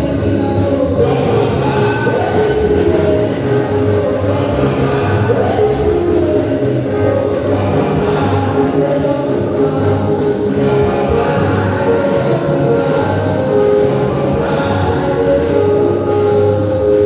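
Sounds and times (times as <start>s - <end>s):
choir singing gospel song: 0.0s - 17.0s
instrumental backing with bass line: 0.0s - 17.0s.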